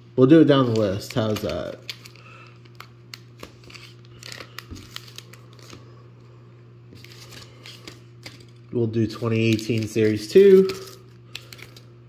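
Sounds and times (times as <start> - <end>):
steady low hum: 0.0 - 12.0
foil pack crinkling: 0.5 - 5.9, 6.9 - 11.9.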